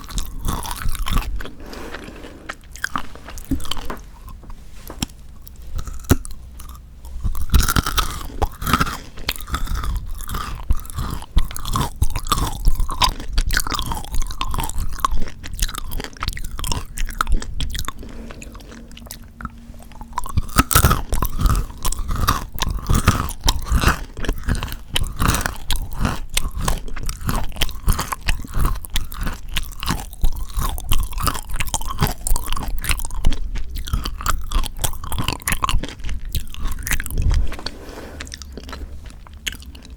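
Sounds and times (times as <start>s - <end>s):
chewing and crunching chocolate: 0.0s - 39.9s
moist mouth sounds: 0.0s - 39.9s.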